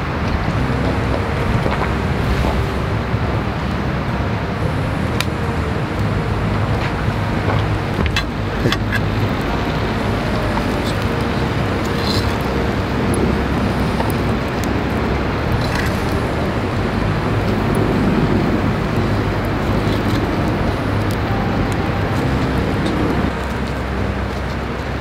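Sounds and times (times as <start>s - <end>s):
fire crackling: 0.0s - 25.0s
wood fire roaring: 0.0s - 25.0s.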